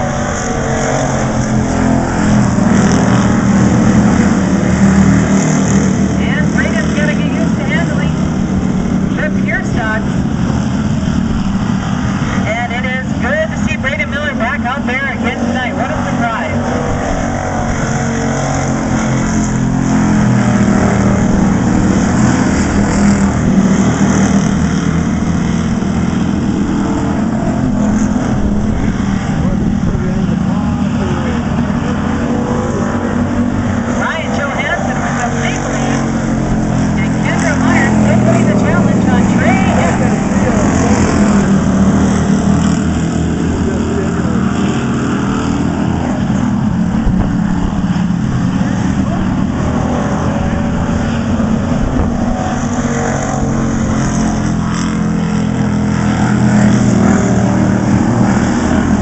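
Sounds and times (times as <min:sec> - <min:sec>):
race car engines: 0:00.0 - 0:59.0.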